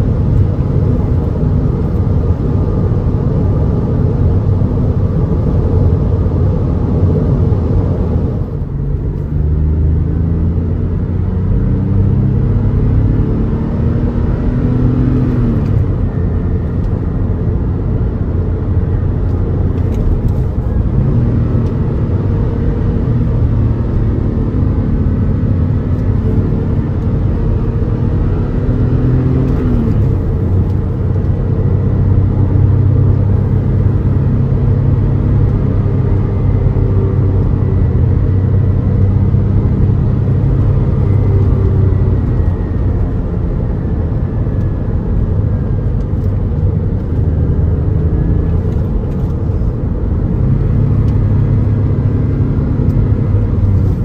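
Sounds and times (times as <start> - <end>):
car engine running: 0.0 - 54.0
road noise inside car: 0.0 - 54.0.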